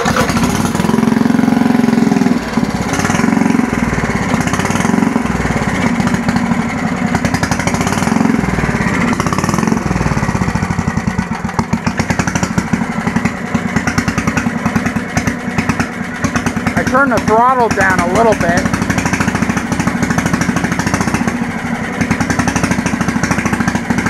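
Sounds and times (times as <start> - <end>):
small engine running unevenly: 0.0 - 24.0.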